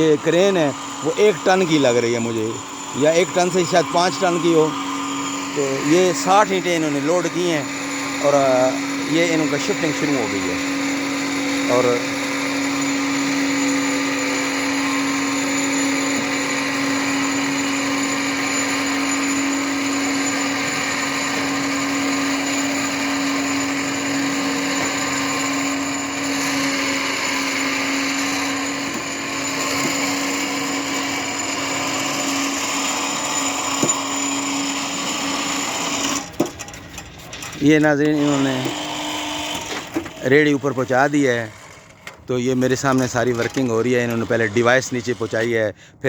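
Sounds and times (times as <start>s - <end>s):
hoist motor whining: 0.0s - 46.0s.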